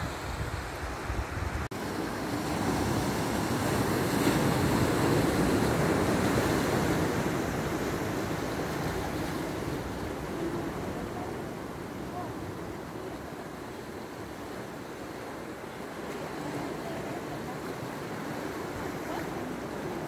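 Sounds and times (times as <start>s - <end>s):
sea water washing against rocks: 0.0s - 20.0s.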